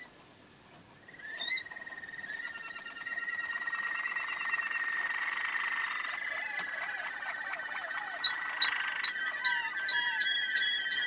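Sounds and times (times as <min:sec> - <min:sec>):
canary singing with bubbling trills: 0:01.1 - 0:11.0.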